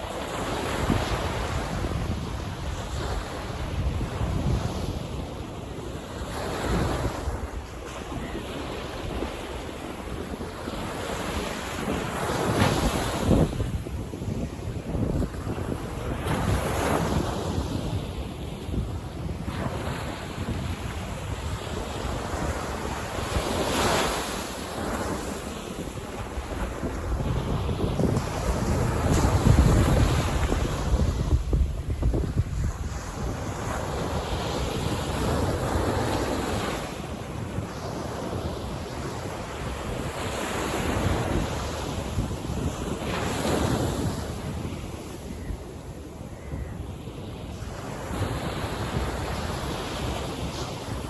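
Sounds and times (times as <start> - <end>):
waves washing onto beach: 0.0 - 51.0
wind on microphone: 0.0 - 51.0.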